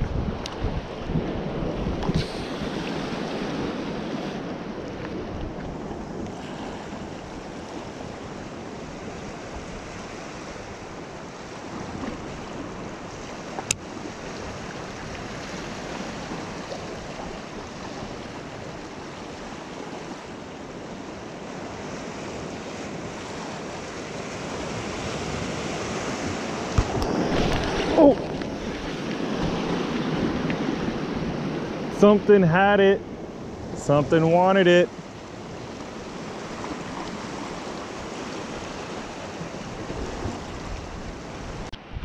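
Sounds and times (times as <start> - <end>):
wind buffeting microphone: 0.0 - 32.4, 35.2 - 42.0
surf washing over rocks: 0.0 - 42.0.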